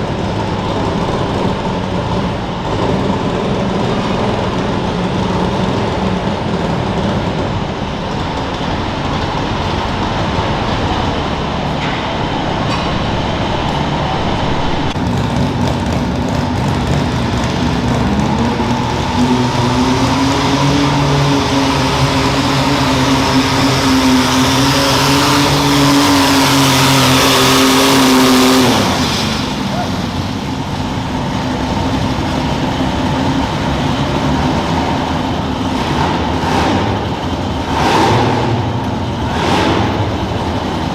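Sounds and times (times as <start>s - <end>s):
tractor engine under load: 0.0s - 40.9s.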